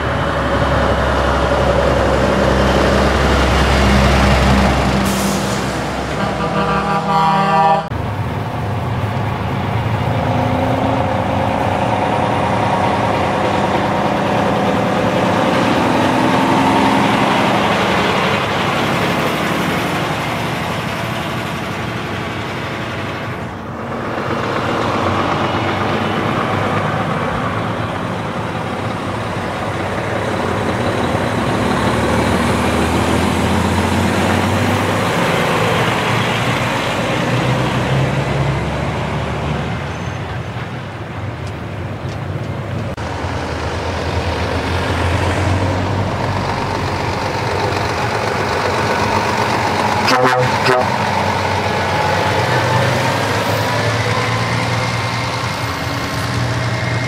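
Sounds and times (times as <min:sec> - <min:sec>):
heavy trucks driving past: 0:00.0 - 0:57.0.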